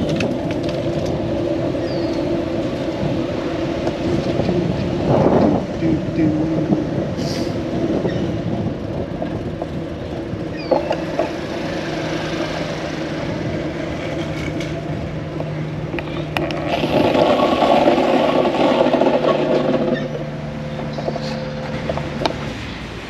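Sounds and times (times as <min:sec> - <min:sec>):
traffic hum: 0:00.0 - 0:23.0
vehicle engine running: 0:00.0 - 0:23.0.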